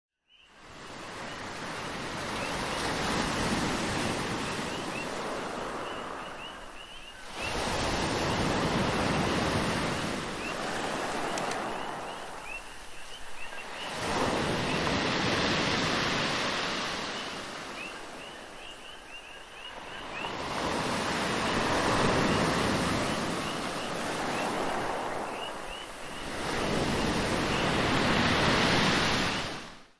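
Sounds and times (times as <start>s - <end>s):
waves washing in: 0.6s - 29.9s.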